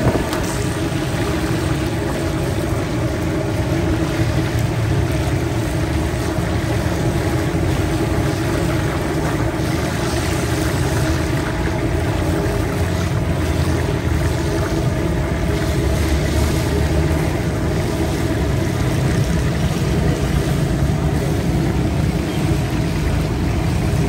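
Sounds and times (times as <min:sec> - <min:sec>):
constant low rumble: 0:00.0 - 0:24.0
fish sizzling in hot oil: 0:00.0 - 0:24.0.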